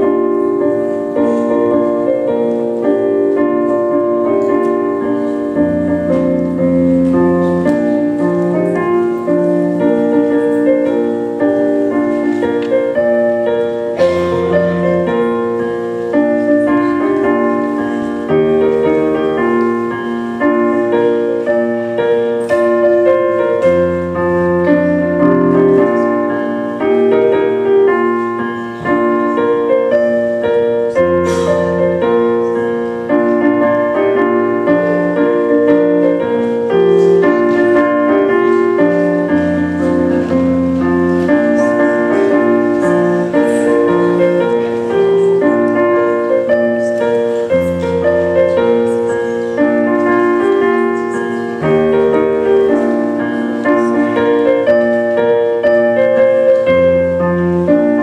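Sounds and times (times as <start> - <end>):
slow keyboard music: 0.0 - 58.0.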